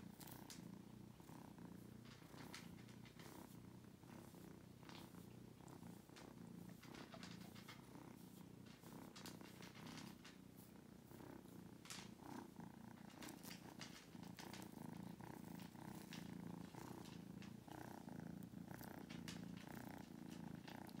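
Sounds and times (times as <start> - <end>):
kitten purring: 0.0 - 21.0.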